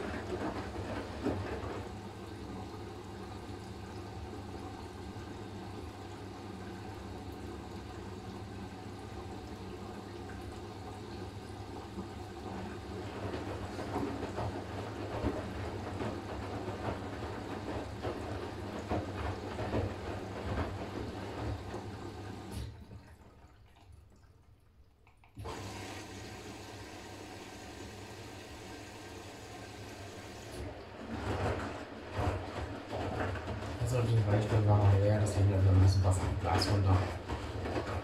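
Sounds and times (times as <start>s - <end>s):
washing machine low hum: 0.0s - 38.0s.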